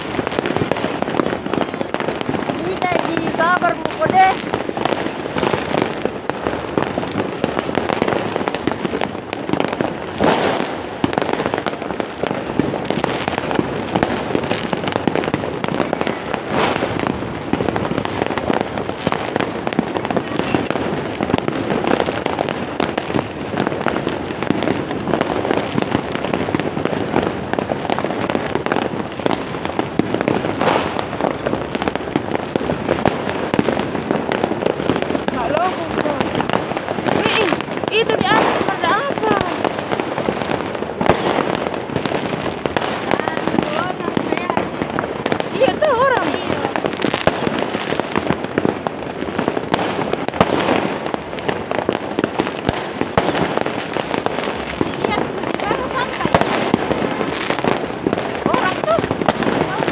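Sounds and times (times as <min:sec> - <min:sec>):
fireworks crackling and popping: 0:00.0 - 0:59.9
loud firework bangs: 0:00.0 - 0:59.9.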